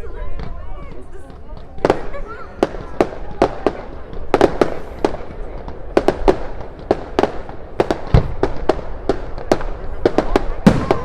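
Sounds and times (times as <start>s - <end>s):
deep fireworks boom: 0.4s - 11.0s.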